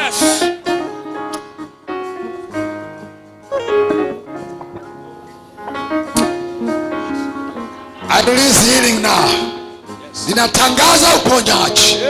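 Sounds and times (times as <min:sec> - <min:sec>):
slow sustained background music: 0:00.0 - 0:12.0.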